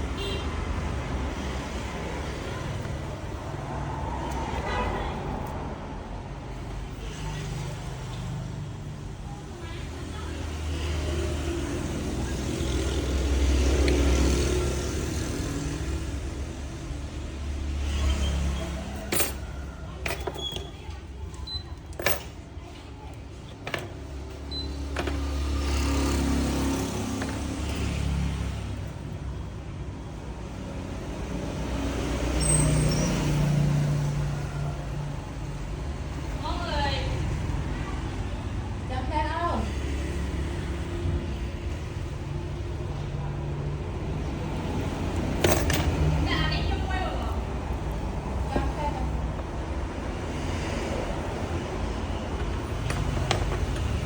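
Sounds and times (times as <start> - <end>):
road traffic: 0.0 - 54.0.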